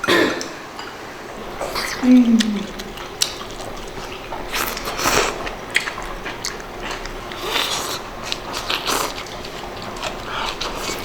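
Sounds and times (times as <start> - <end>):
person chewing crunchy food: 1.5 - 11.0.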